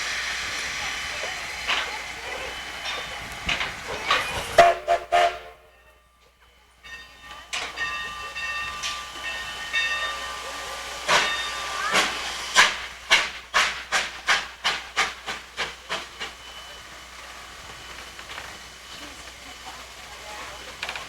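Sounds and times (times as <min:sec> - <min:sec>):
steam hiss: 0:00.0 - 0:05.6, 0:07.5 - 0:21.0
steam exhaust chuffs: 0:00.0 - 0:05.7, 0:07.8 - 0:21.0
steam locomotive chime whistle: 0:00.0 - 0:13.8, 0:15.2 - 0:21.0.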